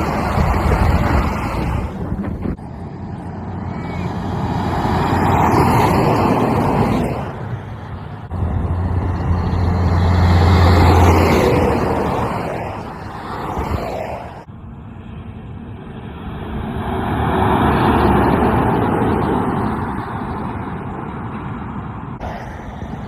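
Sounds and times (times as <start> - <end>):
low engine hum: 0.0 - 23.0
trucks passing on road: 0.0 - 23.0.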